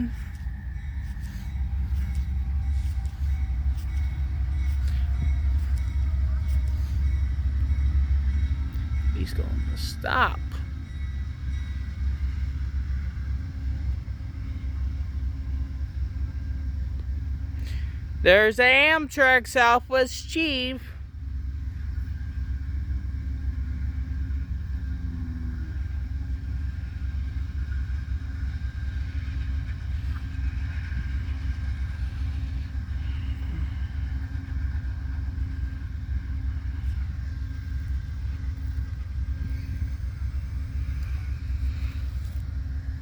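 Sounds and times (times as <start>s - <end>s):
diesel locomotive rumble: 0.0s - 43.0s.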